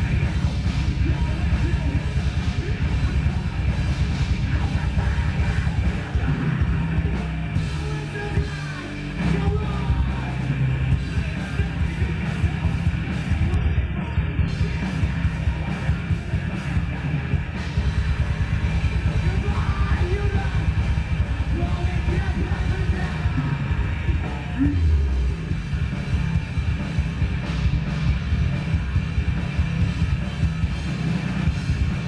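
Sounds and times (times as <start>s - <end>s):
heavy rock music: 0.0s - 32.0s.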